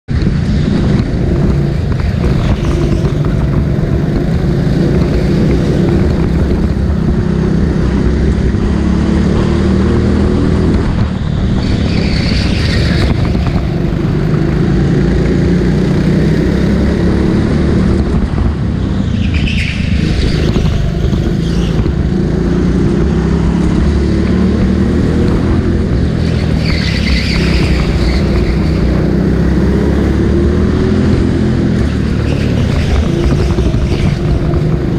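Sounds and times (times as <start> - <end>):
go-kart engine revving: 0.2 - 34.9.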